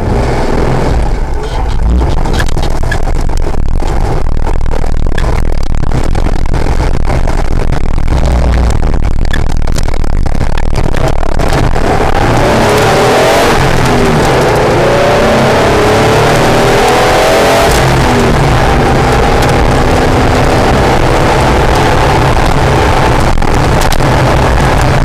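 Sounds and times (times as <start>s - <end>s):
car engine revving: 0.0s - 25.0s
wind and road noise: 0.0s - 25.0s.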